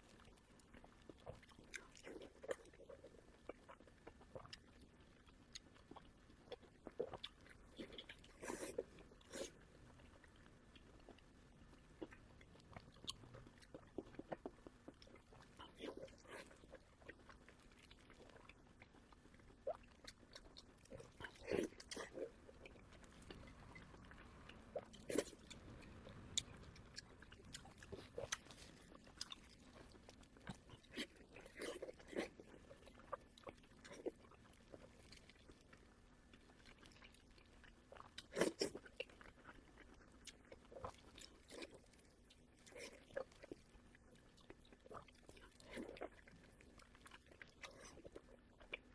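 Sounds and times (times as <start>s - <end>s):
close chewing and biting: 0.0s - 48.9s.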